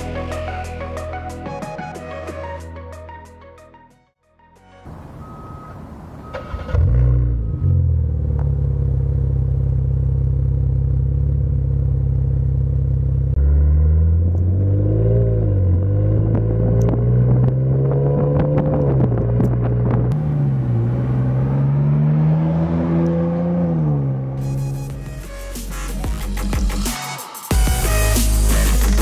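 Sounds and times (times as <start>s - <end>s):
engine idling and revving: 5.2s - 29.0s.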